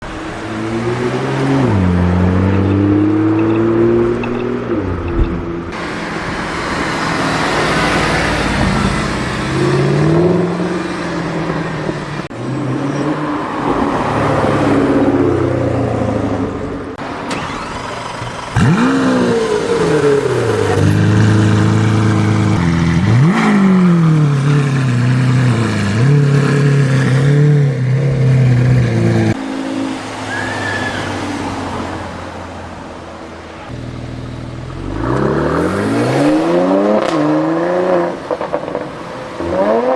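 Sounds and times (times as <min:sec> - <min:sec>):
supercar engines revving: 0:00.0 - 0:39.9.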